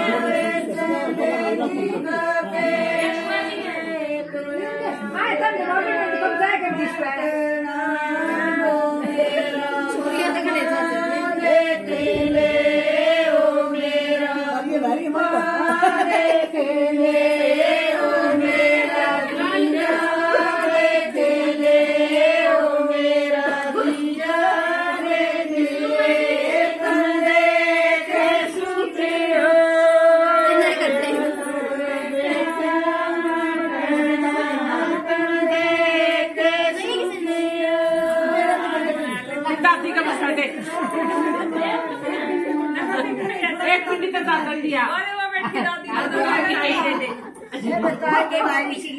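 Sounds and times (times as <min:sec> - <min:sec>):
women singing folk song: 0:00.0 - 0:44.5.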